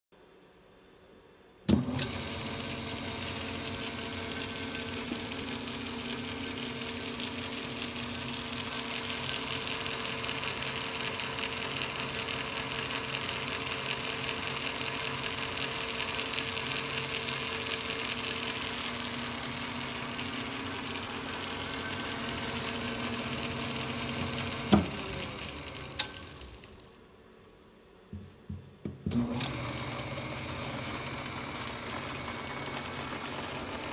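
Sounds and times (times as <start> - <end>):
lathe motor humming and whirring: 1.7 - 26.8, 29.1 - 33.9.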